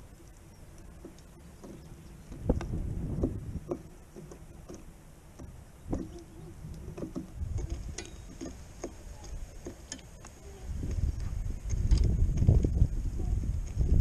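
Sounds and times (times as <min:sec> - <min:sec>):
wind rumble on microphone: 0:01.1 - 0:04.7, 0:05.4 - 0:14.0.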